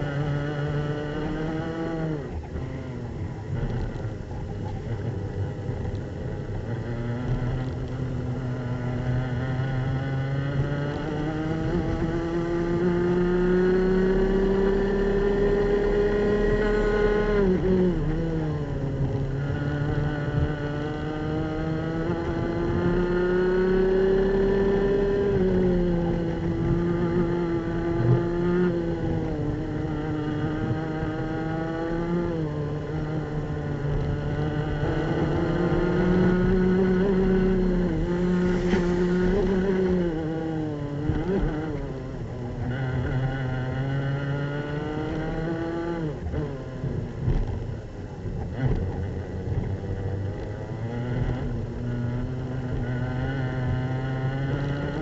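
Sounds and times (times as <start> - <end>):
kart engine at high revs: 0.0 - 55.0.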